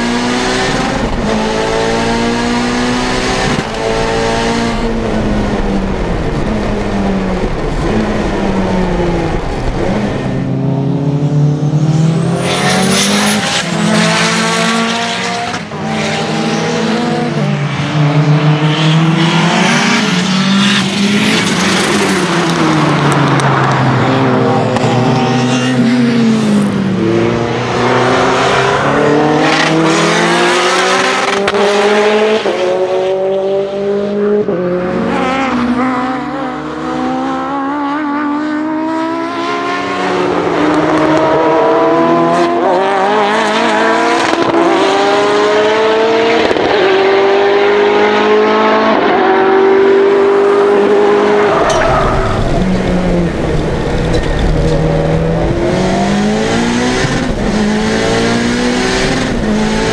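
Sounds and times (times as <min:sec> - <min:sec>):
turbocharged car engine accelerating: 0:00.0 - 0:59.9.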